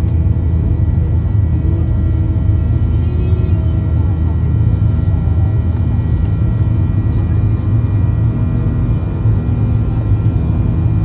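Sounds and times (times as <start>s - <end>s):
engine and airflow rumble: 0.0s - 11.0s.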